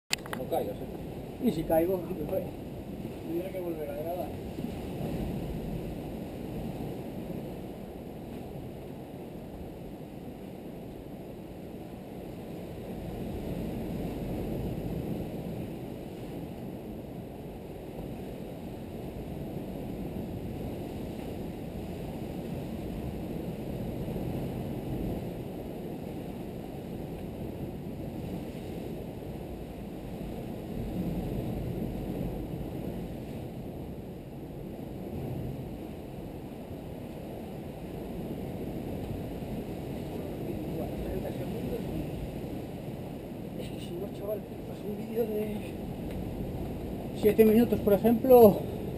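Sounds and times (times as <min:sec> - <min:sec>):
wind buffeting microphone: 0:00.1 - 0:48.9.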